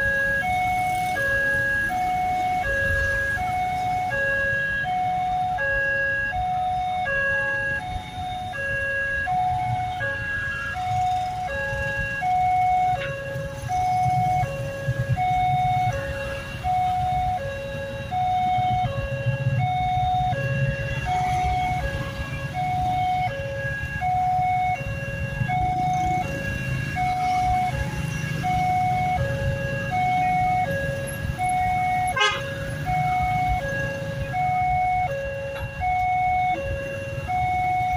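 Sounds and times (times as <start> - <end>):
level crossing two-tone alarm: 0.0 - 37.9.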